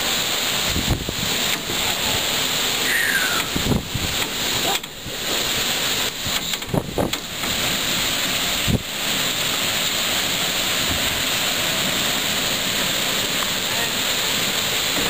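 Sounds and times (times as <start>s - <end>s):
wind gusts thumping microphone: 0.0s - 13.3s
heavy rain: 0.0s - 15.0s
wind: 0.0s - 15.0s.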